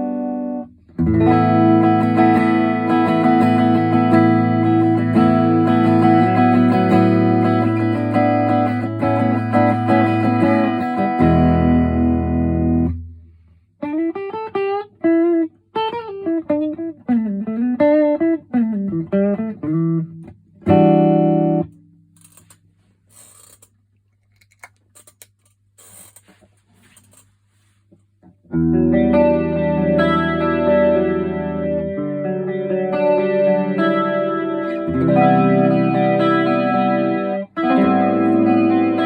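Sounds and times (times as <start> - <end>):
electric guitar: 0.0 - 13.1, 13.8 - 21.7, 28.4 - 39.0.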